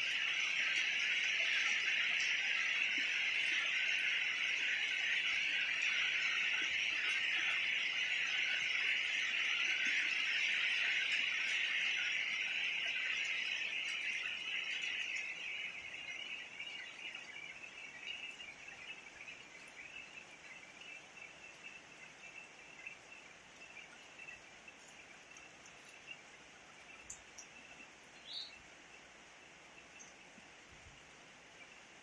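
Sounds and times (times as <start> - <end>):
faint high-pitched hiss: 0.0 - 32.0.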